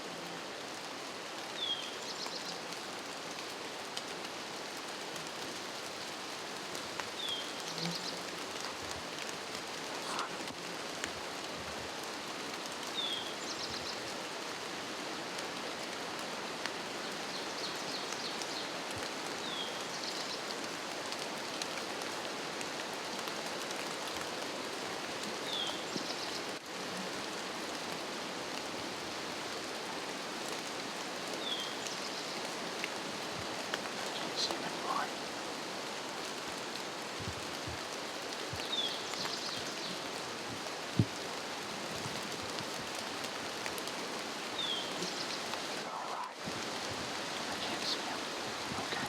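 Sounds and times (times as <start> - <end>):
light rain falling: 0.0 - 49.0.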